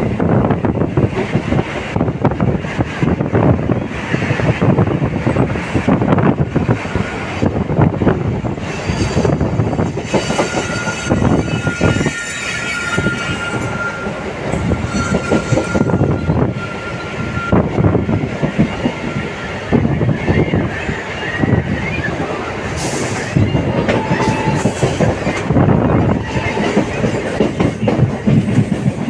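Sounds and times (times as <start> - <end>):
train wheels rumbling over rails: 0.0 - 29.0.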